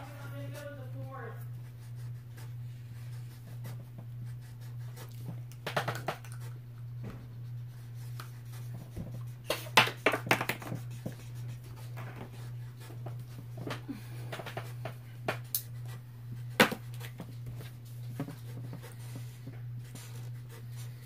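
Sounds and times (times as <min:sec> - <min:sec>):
drawing tools scratching on paper: 0:00.0 - 0:13.7, 0:14.4 - 0:21.0
steady low hum: 0:00.0 - 0:21.0.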